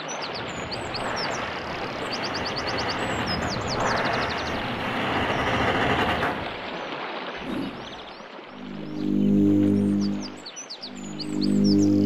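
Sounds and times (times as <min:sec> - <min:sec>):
birds chirping: 0:00.0 - 0:12.0
steady rushing noise: 0:00.1 - 0:12.0.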